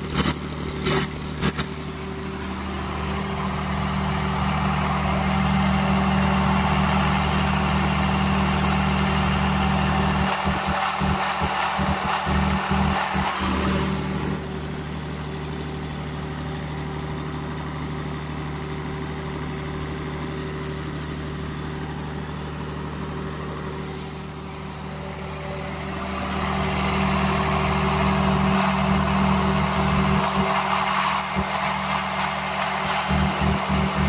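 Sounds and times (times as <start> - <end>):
diesel generator running: 0.0 - 34.0.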